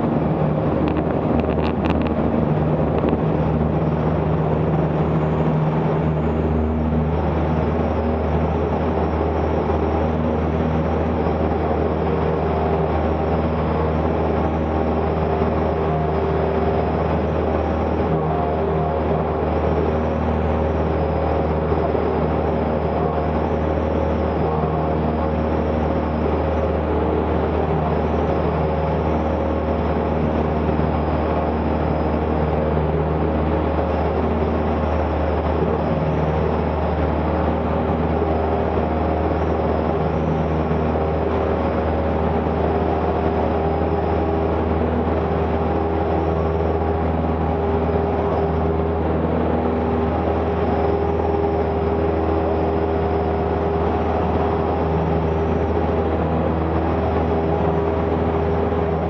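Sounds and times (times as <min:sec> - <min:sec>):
plane engine and propeller drone: 0:00.0 - 0:59.0.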